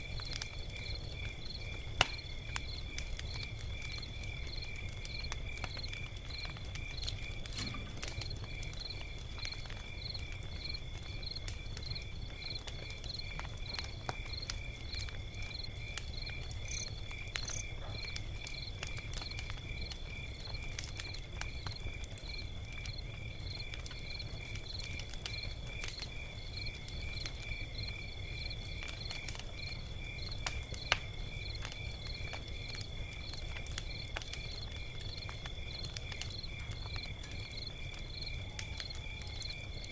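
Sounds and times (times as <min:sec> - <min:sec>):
crickets chirping: 0:00.0 - 0:39.9
log fire crackling and popping: 0:00.0 - 0:39.9.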